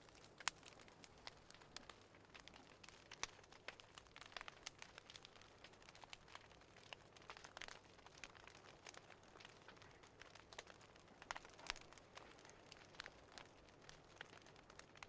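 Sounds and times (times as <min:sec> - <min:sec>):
faint wood fire crackling: 0:00.0 - 0:15.0.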